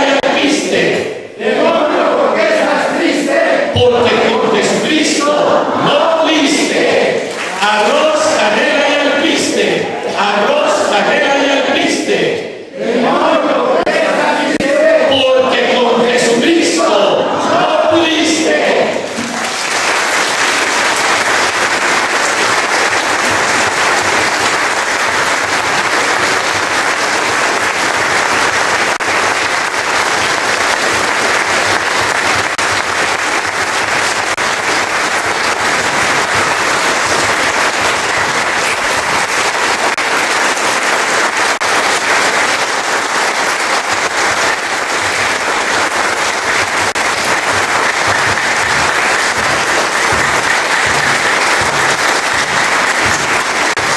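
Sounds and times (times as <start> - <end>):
congregation applauding: 0.0 - 12.4, 13.2 - 53.9.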